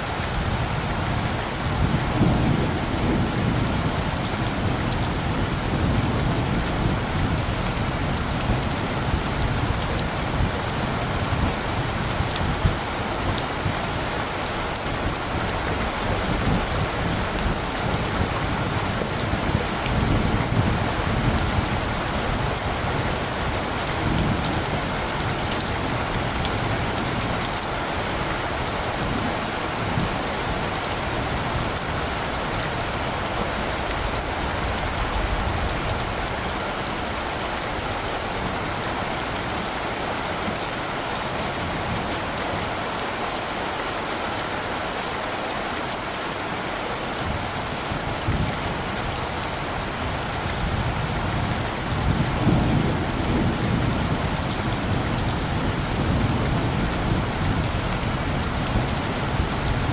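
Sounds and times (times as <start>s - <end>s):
close raindrops crackling: 0.0s - 59.9s
rain falling on surfaces: 0.0s - 59.9s
distant thunder rumble: 0.5s - 38.7s, 48.1s - 59.9s.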